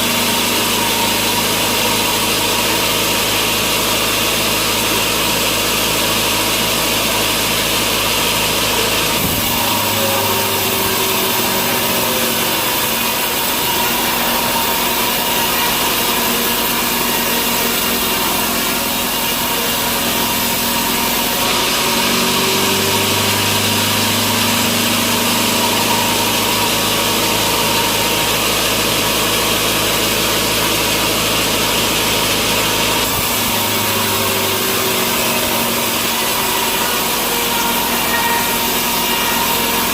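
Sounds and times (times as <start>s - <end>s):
low motor hum: 0.0s - 39.9s
saw cutting through log: 0.0s - 39.9s.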